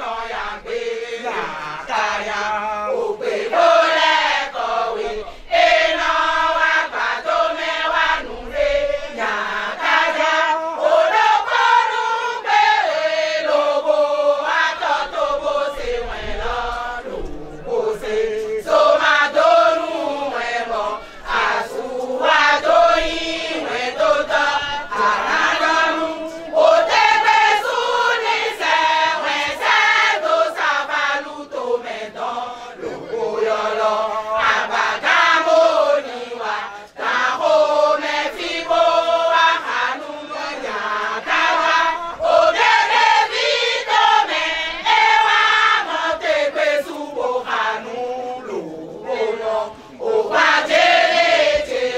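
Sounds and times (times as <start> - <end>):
women singing a chant: 0.0 - 51.9.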